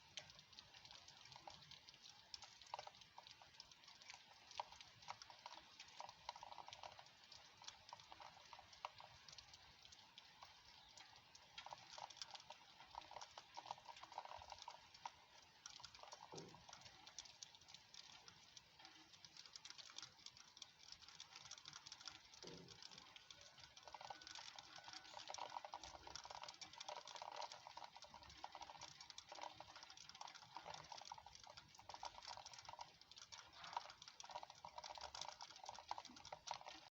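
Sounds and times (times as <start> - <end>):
light rain pattering: 0.0 - 37.0.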